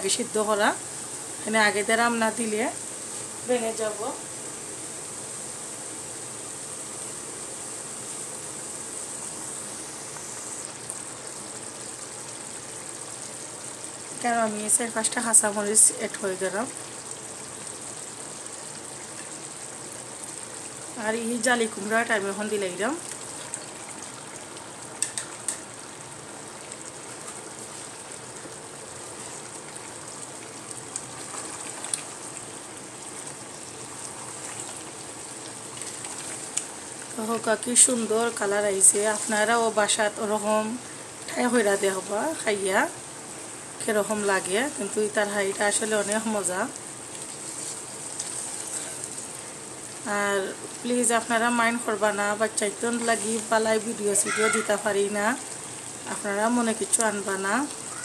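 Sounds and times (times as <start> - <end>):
curry bubbling at a boil: 0.0 - 58.0
curry sizzling in a pan: 0.0 - 58.0.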